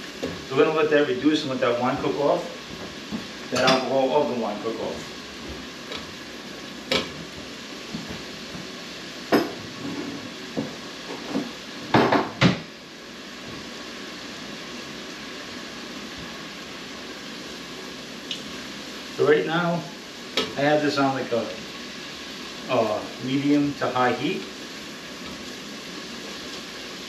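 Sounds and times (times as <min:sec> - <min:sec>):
wine sizzling in hot pan: 0:00.0 - 0:27.0.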